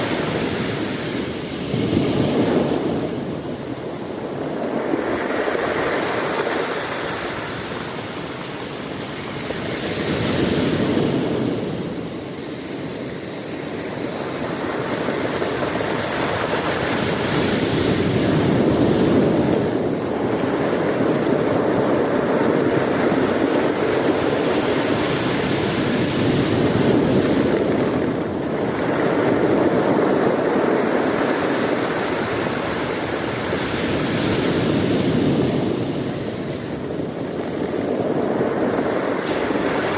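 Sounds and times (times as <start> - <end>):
surf rushing: 0.0 - 39.9.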